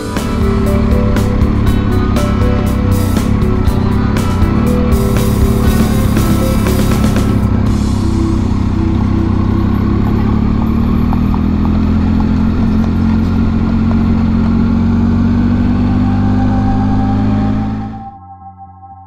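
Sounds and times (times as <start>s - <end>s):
motorcycle engine running: 0.0s - 18.1s
wind and road noise: 0.0s - 18.1s.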